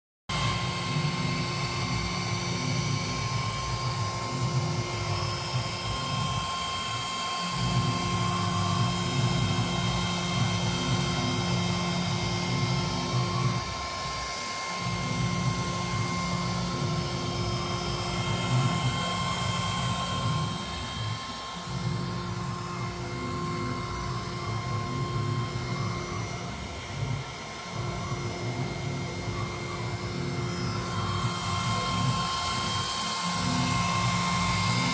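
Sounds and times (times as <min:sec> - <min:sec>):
router spindle whine: 0:00.3 - 0:34.9.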